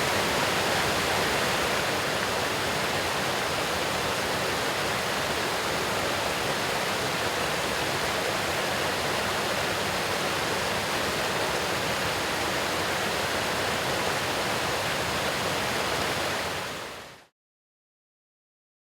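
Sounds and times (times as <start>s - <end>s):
waterfall water rushing: 0.0s - 17.3s.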